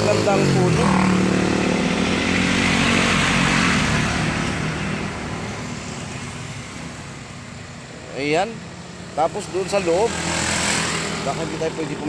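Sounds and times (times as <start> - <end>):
motor vehicle passing: 0.0 - 7.5, 8.4 - 12.0.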